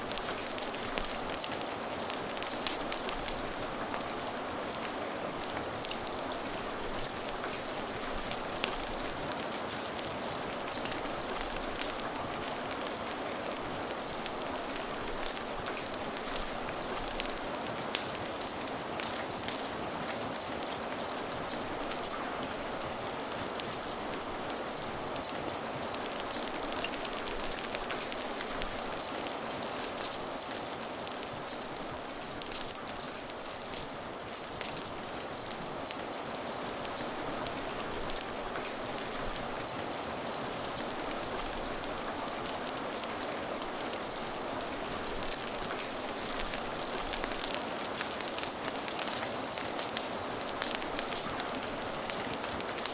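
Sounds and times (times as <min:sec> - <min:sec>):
steady rain falling: 0:00.0 - 0:52.9
wood fire crackling: 0:00.0 - 0:52.9.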